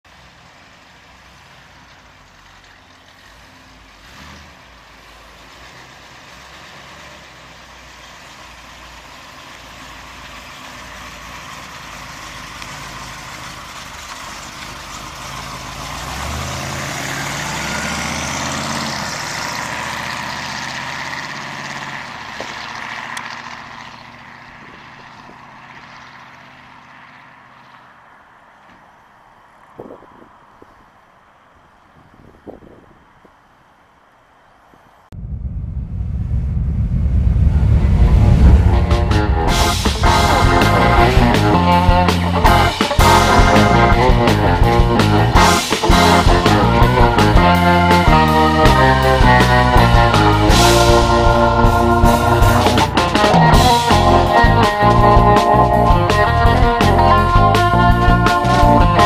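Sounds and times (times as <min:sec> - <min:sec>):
car engine driving by: 0:00.2 - 0:31.0, 0:34.7 - 0:59.0.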